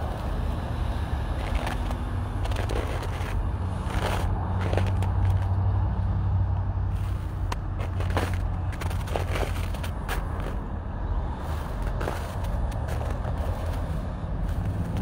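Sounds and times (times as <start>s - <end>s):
footsteps on slushy sidewalk: 0.0s - 5.6s, 6.9s - 10.7s, 11.3s - 15.0s
road traffic rumble: 0.0s - 15.0s.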